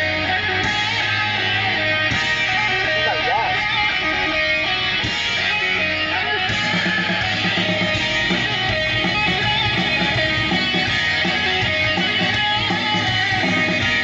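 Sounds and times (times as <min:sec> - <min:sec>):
guitar-led rock music: 0:00.0 - 0:14.0.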